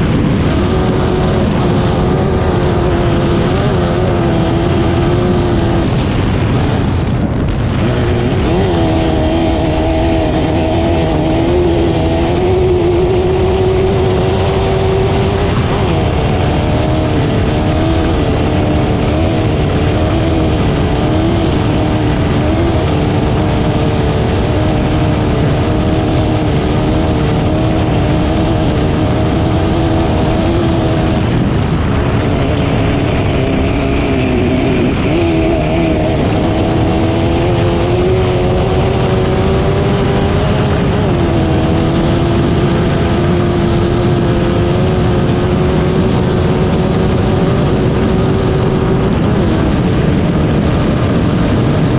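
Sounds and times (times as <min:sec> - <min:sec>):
racing engine running hard: 0:00.0 - 0:51.9.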